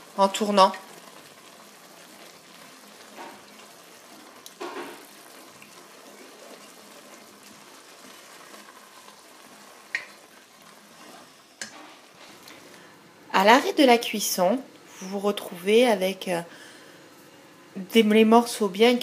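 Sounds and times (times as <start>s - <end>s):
soup simmering and sizzling: 0.0s - 19.0s.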